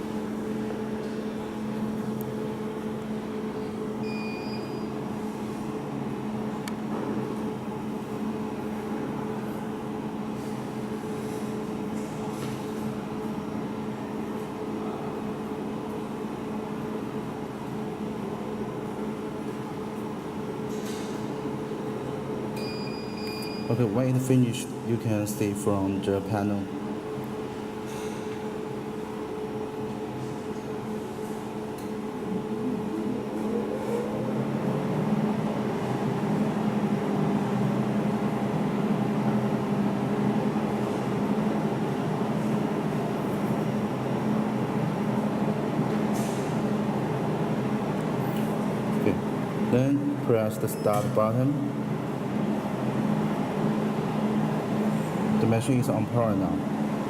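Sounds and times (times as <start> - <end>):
cooling unit humming: 0.0 - 57.0.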